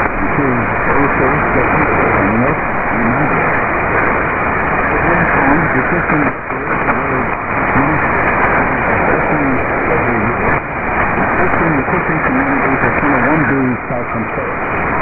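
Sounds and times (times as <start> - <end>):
faint voice on shortwave radio: 0.0 - 3.6, 4.9 - 10.6, 11.2 - 14.6
radio hiss and static: 0.0 - 15.0.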